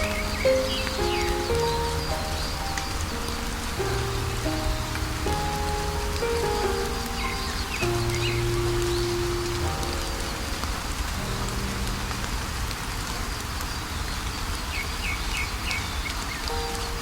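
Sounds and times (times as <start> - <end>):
bird chirping: 0.0 - 17.0
rain falling: 0.0 - 17.0.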